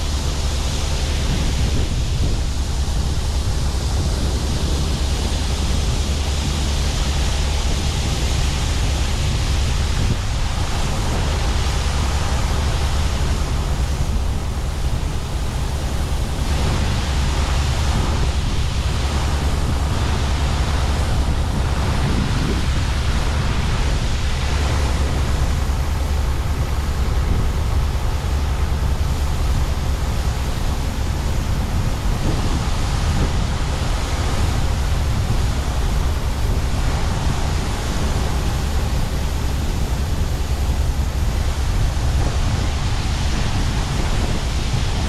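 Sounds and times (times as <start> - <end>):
heavy farm machinery rumbling: 0.0 - 45.0.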